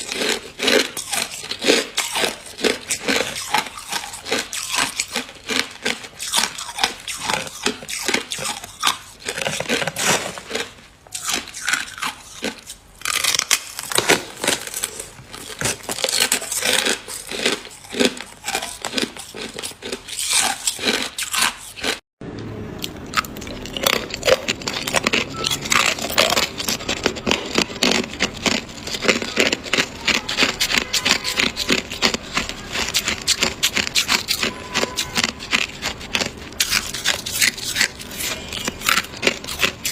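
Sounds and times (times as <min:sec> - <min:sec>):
ice being chewed: 0:00.0 - 0:22.0, 0:22.8 - 0:39.9.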